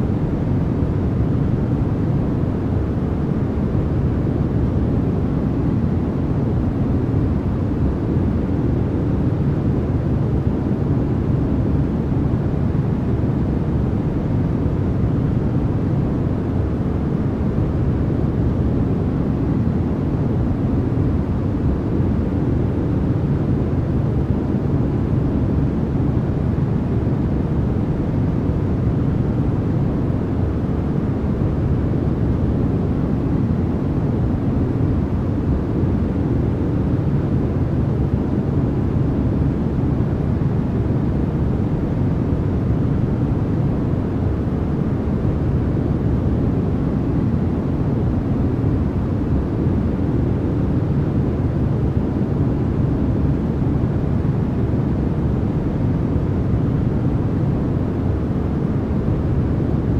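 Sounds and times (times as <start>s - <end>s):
deep white noise: 0.0s - 59.9s.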